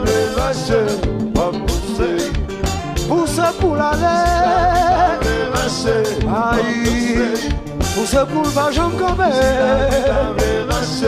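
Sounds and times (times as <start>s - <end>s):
band playing live: 0.0s - 11.0s
steady drum beat: 0.0s - 11.0s.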